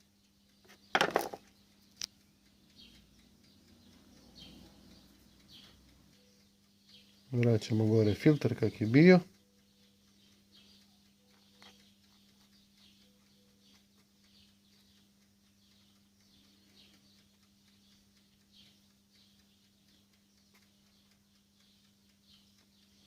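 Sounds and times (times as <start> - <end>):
faint high-pitched ticks: 0.0 - 23.0
steady low hum: 1.4 - 23.0.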